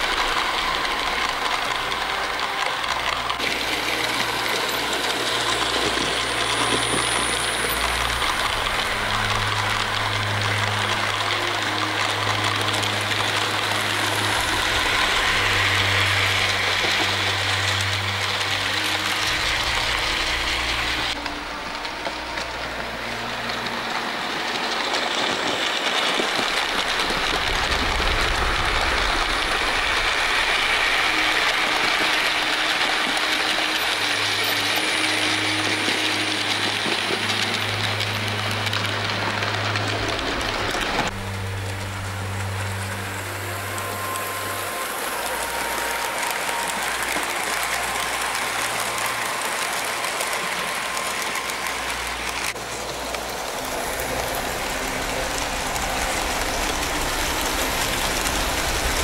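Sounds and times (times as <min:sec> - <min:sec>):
model train wheels rattling on rails: 0:00.0 - 0:59.0.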